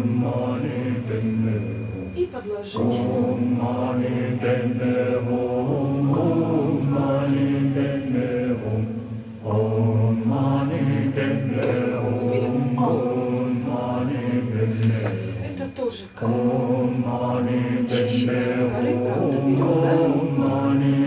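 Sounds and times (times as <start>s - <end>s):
steady low drone: 0.0s - 2.2s, 2.8s - 21.0s
chanted vocal line: 0.0s - 21.0s.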